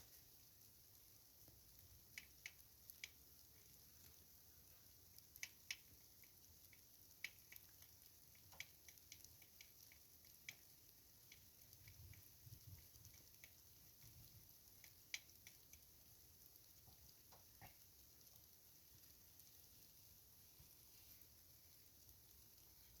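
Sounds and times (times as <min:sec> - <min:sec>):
caterpillar chewing: 0:00.0 - 0:23.0.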